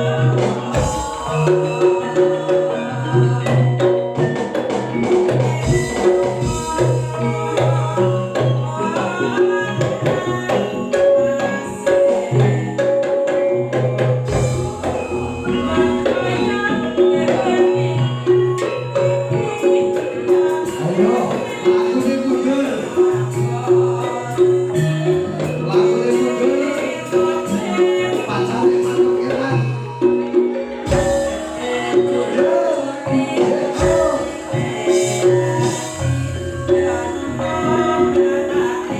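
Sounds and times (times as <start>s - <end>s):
hand drum: 0.0s - 38.9s.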